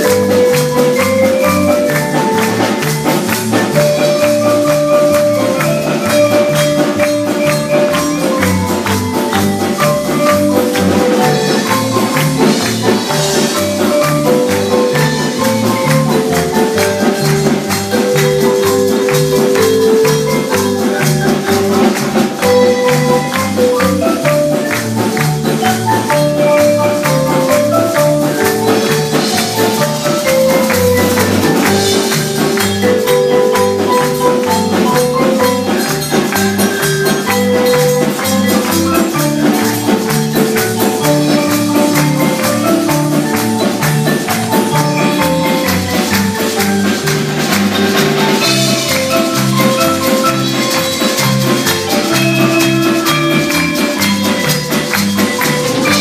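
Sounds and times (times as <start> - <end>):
marimba music: 0.0 - 56.0.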